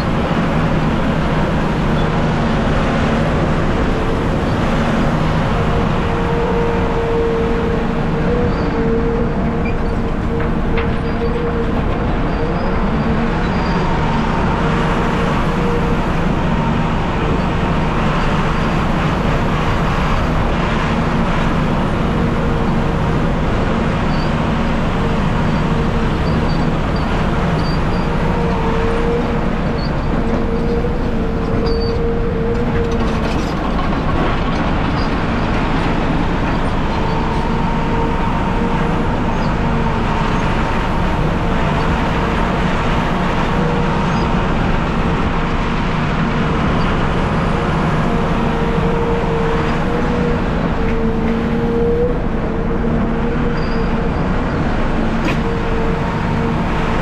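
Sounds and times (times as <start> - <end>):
haul truck engine rumble: 0.0 - 57.0.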